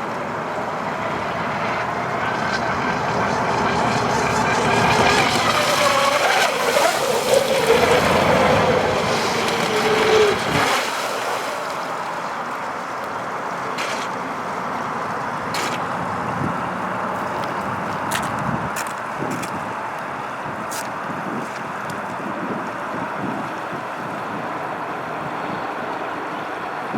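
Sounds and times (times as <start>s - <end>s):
rush of water and wind: 0.0s - 26.9s.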